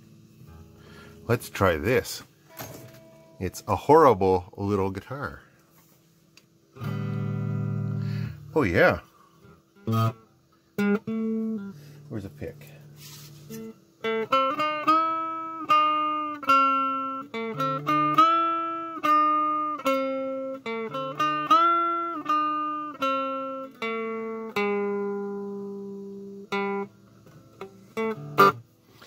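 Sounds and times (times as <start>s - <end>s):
electric guitar picked notes: 0.0s - 4.3s, 6.7s - 28.7s.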